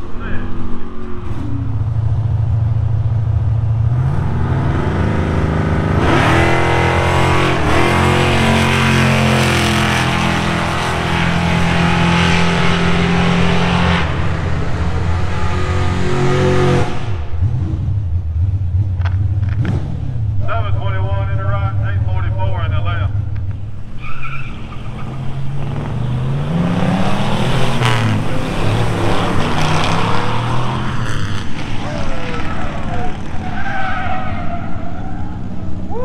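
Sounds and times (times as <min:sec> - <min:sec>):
drag racing car engines: 0:00.0 - 0:36.0.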